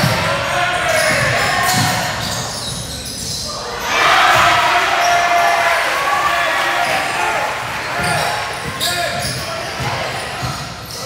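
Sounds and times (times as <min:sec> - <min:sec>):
echoing voices: 0:00.0 - 0:11.0.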